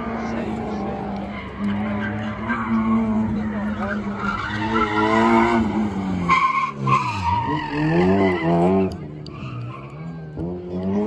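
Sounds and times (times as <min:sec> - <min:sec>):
race car engine revving: 0:00.0 - 0:11.0
tyres squealing: 0:00.9 - 0:10.0.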